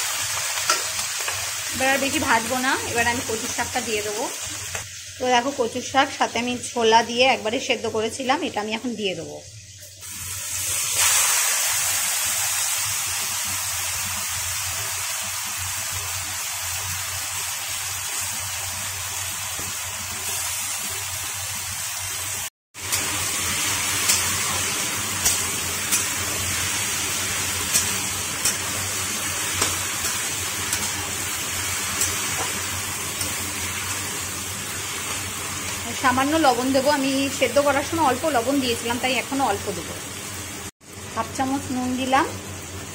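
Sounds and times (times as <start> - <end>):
greens sizzling in hot oil: 0.0 - 42.9.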